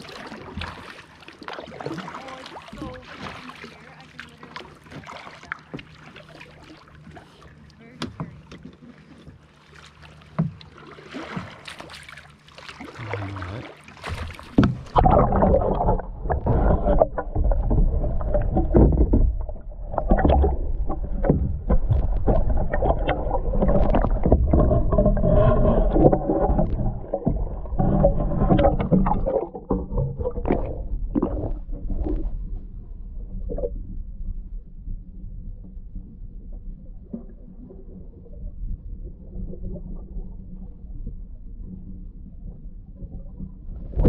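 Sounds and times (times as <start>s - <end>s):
muffled underwater churning: 0.0s - 44.0s
water splashing around kayak: 0.0s - 44.0s.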